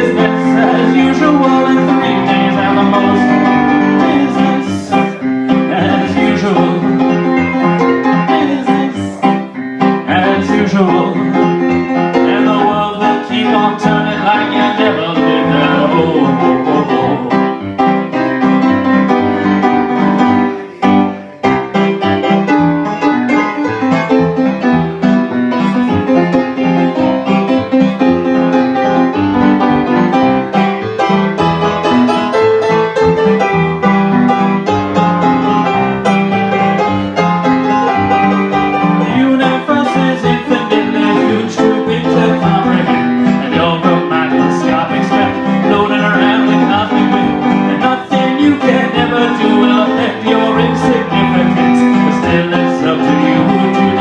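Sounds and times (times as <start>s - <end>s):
keyboard music: 0.0s - 54.0s.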